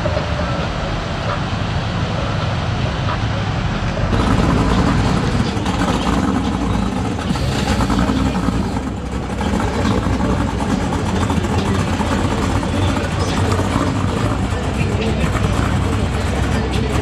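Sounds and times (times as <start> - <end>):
car engine idling rumble: 0.0 - 17.0.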